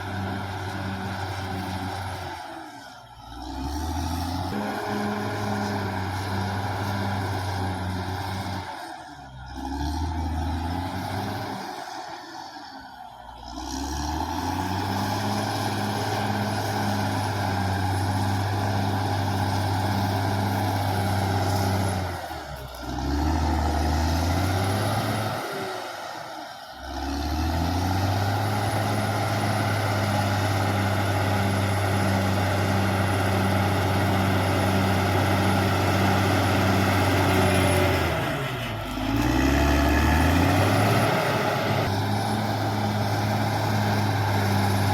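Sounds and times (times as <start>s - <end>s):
bulldozer diesel engine under load: 0.0s - 44.9s.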